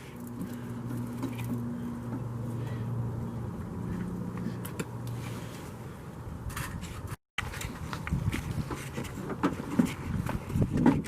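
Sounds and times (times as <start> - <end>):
low mechanical hum: 0.0 - 10.8.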